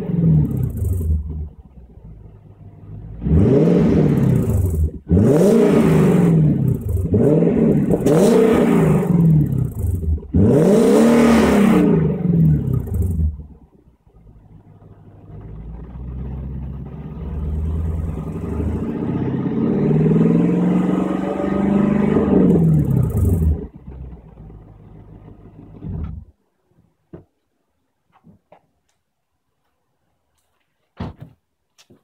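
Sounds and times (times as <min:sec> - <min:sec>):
car engine revving: 0:00.0 - 0:13.6, 0:14.2 - 0:26.3.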